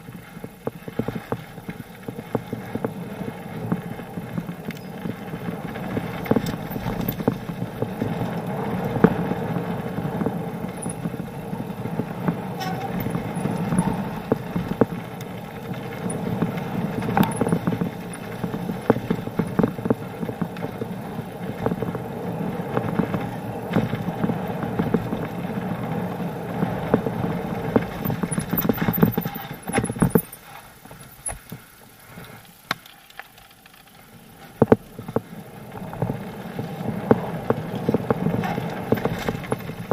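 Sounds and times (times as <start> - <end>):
bike rattling: 0.0 - 39.9
tyres crunching over loose stones: 0.0 - 39.9.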